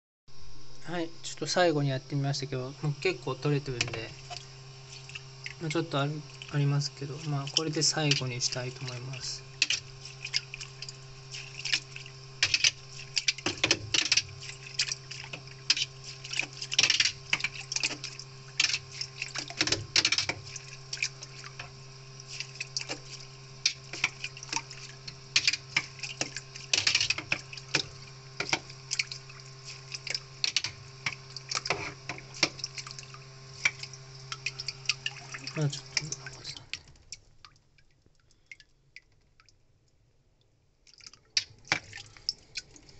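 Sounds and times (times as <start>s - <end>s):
water splashing and dripping: 2.8s - 39.6s, 40.8s - 42.9s.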